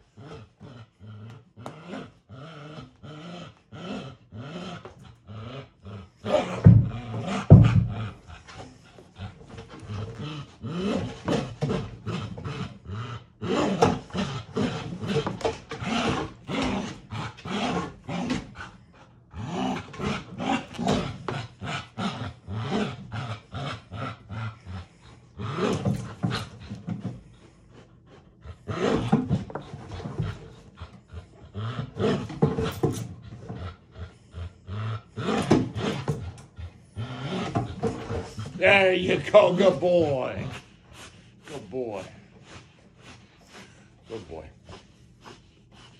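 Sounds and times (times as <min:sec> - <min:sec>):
dog growling: 0:00.0 - 0:45.9.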